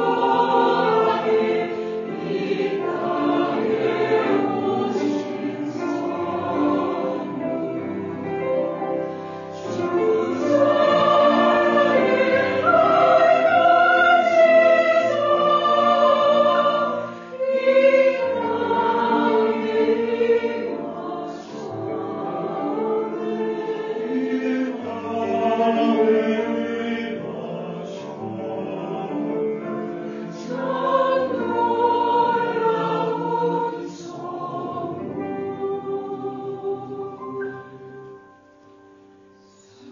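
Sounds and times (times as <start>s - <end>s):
church choir singing a hymn: 0.0s - 38.4s, 39.4s - 39.9s.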